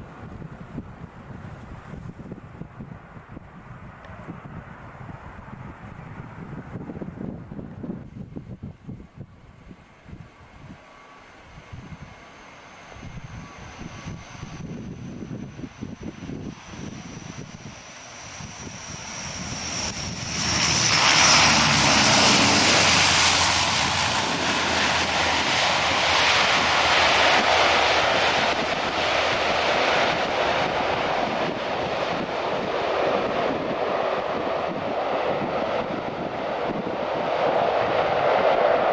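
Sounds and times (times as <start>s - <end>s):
turboprop engines running: 0.0s - 38.9s
high engine whine: 4.0s - 38.9s.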